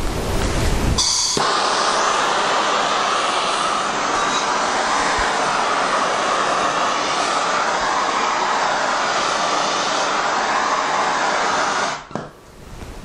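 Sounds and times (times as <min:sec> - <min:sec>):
propane torch hissing: 0:00.0 - 0:12.2.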